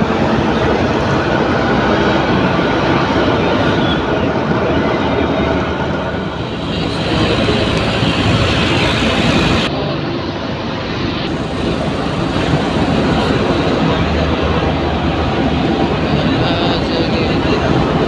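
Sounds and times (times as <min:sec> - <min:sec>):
moving vehicle rumble: 0:00.0 - 0:18.0.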